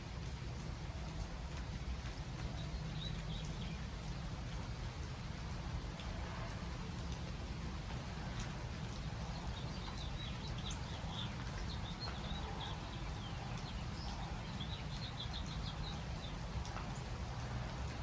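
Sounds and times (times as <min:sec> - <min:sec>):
rain pattering on trees: 0:00.0 - 0:18.0.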